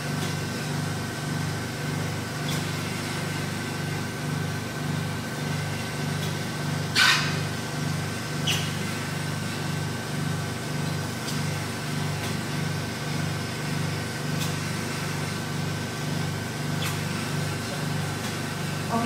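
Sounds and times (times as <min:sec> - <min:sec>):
pulsing vacuum pump hum: 0:00.0 - 0:19.0.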